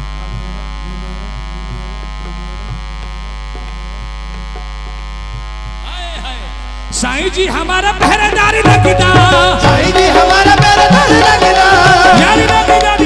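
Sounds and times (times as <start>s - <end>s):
mains hum and electrical buzz: 0.0s - 13.0s.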